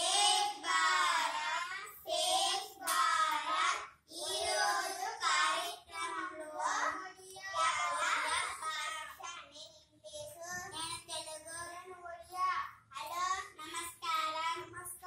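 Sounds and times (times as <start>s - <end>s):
children reciting phrases: 0.0s - 15.0s.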